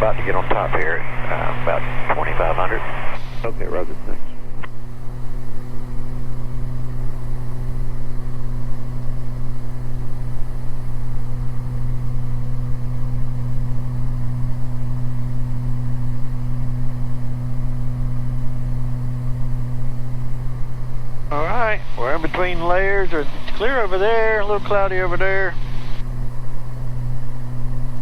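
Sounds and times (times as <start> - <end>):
airplane engines droning in cabin: 0.0 - 28.0.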